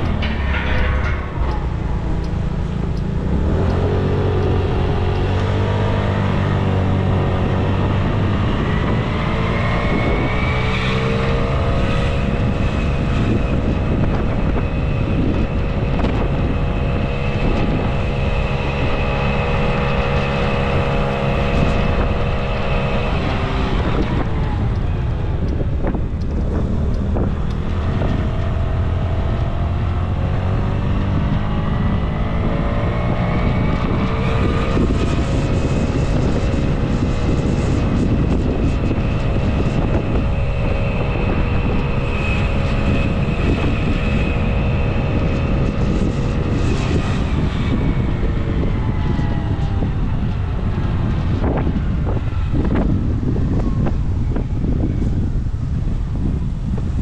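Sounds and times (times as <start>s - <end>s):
traffic passing: 0.0s - 57.0s
vehicle hum: 0.0s - 57.0s
wind on microphone: 0.0s - 57.0s.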